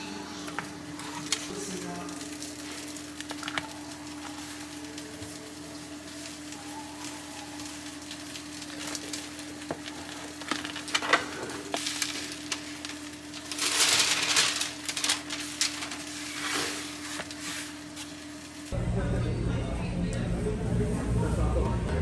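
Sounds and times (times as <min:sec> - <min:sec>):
low hum: 0:00.0 - 0:22.0
paper crinkling and rustling: 0:00.3 - 0:18.8.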